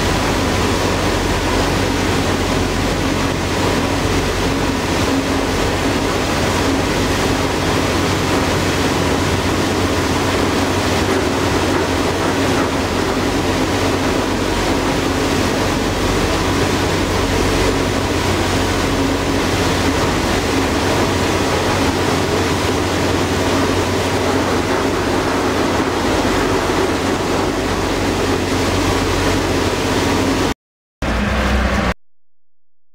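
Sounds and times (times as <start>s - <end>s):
ferry engine droning: 0.0s - 32.0s
water rushing past hull: 0.0s - 32.0s.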